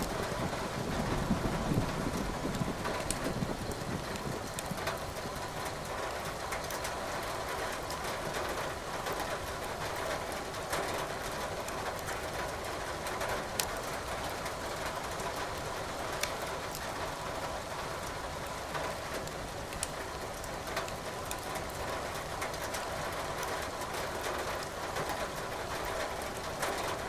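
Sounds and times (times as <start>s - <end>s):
firewood crackling: 0.0s - 12.6s, 13.2s - 22.8s
rain hiss: 0.0s - 27.0s.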